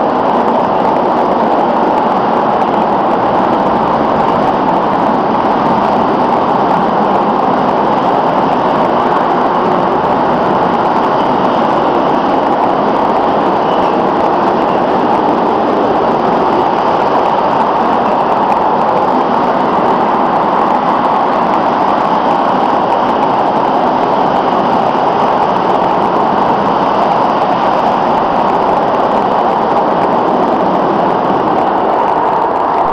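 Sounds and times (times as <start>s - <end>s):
freight train wheels on rails: 0.0s - 32.9s.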